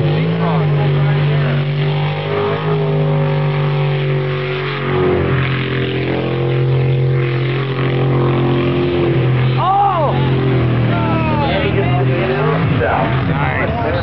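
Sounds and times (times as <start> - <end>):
racing boat engine at high revs: 0.0 - 14.0.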